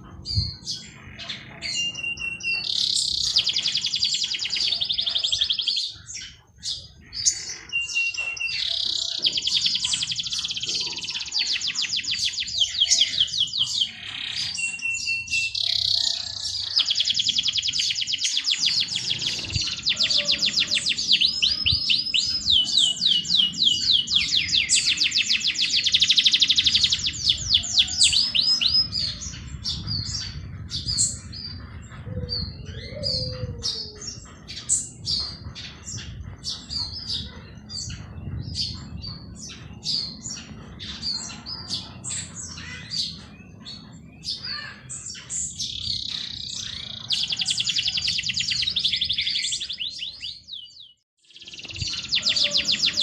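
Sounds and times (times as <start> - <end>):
bird chirps: 0.0 - 53.0
songbird trilling: 0.0 - 53.0.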